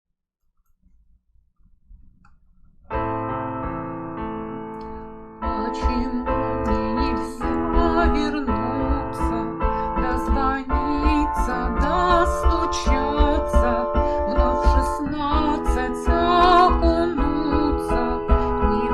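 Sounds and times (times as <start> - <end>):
electric piano chords: 2.9 - 18.9.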